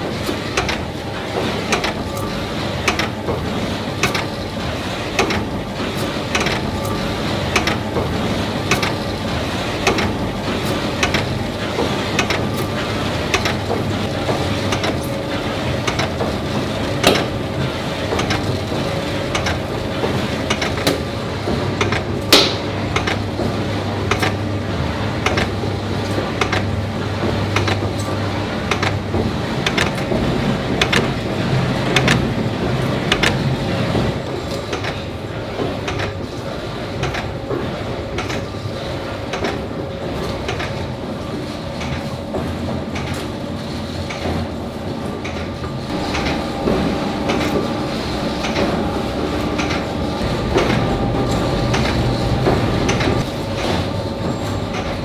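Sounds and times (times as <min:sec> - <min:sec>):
machine whirring: 0:00.0 - 0:55.0
regular mechanical clicking: 0:00.1 - 0:24.5, 0:25.1 - 0:44.5, 0:45.2 - 0:55.0.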